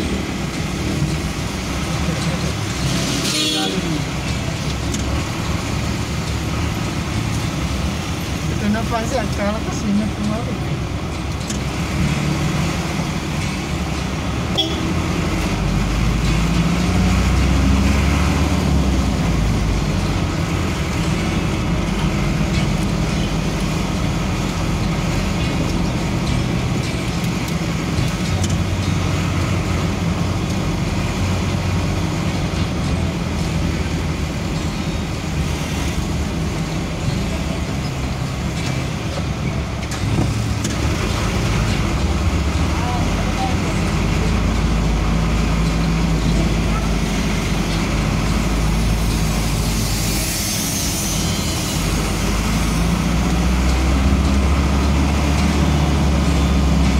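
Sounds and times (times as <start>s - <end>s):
motorcycles and traffic: 0.0s - 56.9s
vehicle engine and road noise: 0.0s - 56.9s.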